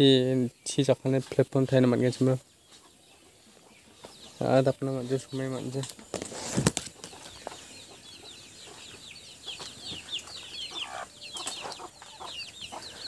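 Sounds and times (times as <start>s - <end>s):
birds peeping: 0.0s - 13.0s.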